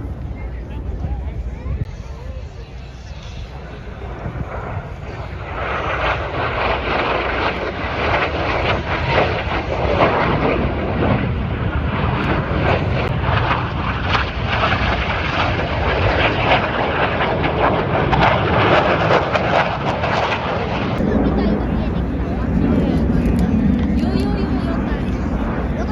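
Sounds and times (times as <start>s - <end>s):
jet aircraft flying over: 0.0s - 25.9s.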